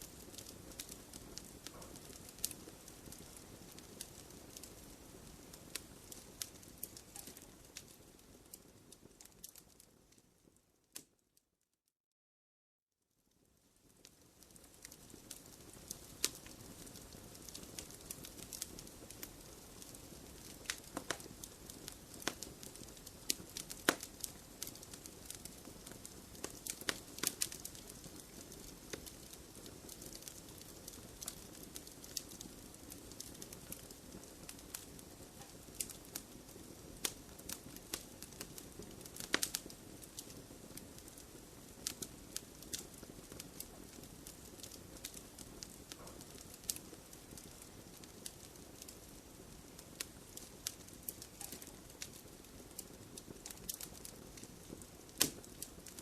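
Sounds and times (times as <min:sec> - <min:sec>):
wood fire crackling: 0:00.0 - 0:11.2, 0:13.3 - 0:56.0.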